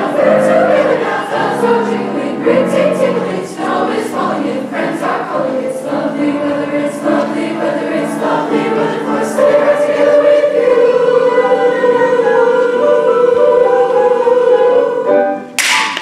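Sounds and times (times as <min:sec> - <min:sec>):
choir singing: 0:00.0 - 0:15.5.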